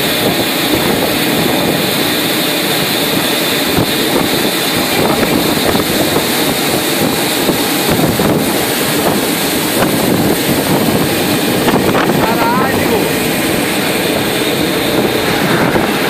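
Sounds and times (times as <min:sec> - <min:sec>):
jet engines running: 0:00.0 - 0:16.0
wind buffeting microphone: 0:00.0 - 0:16.0.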